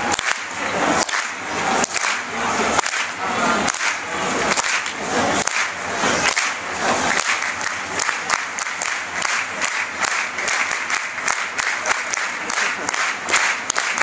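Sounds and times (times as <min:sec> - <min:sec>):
crowd applauding and shouting: 0:00.0 - 0:14.0
sharp single claps: 0:00.1 - 0:14.0.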